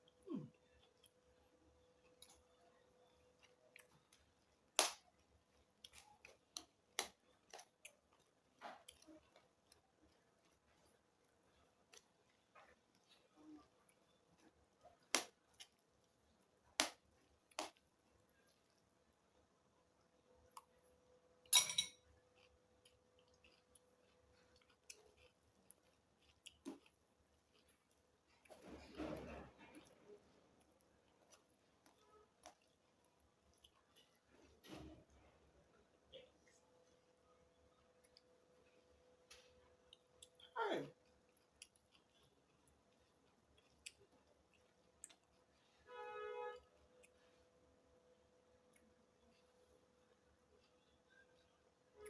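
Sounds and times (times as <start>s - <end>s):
person chewing crunchy food: 0.0s - 19.0s, 21.4s - 35.2s, 36.4s - 45.7s.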